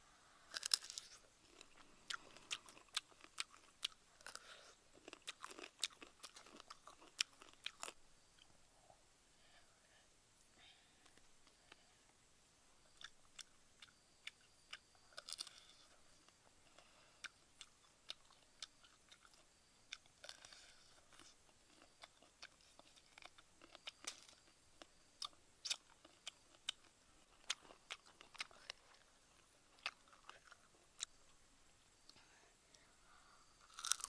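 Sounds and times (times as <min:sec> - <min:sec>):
crunching insects: 0:00.2 - 0:34.0
soft chewing: 0:00.4 - 0:12.2, 0:12.8 - 0:34.0.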